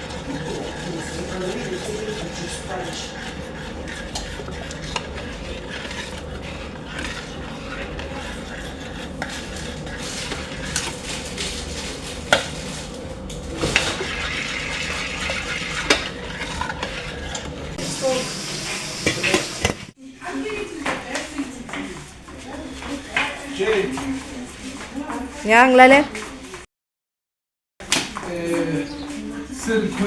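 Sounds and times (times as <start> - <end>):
spoon stirring in a pot: 0.0 - 25.4.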